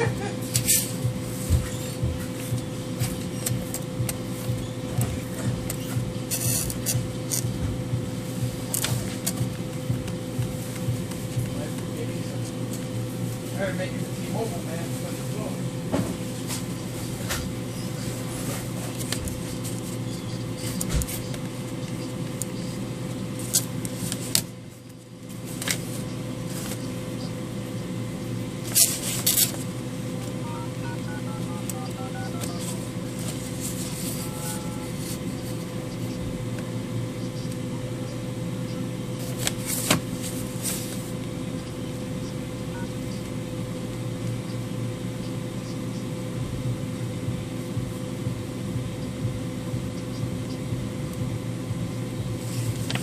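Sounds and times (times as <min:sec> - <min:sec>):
machine hum: 0:00.0 - 0:53.0.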